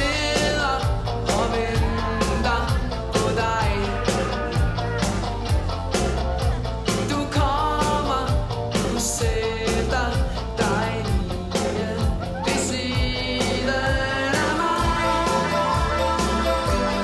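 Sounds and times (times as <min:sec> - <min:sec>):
boy singing: 0:00.0 - 0:05.0, 0:06.9 - 0:17.0
live pop-rock band playing: 0:00.0 - 0:17.0.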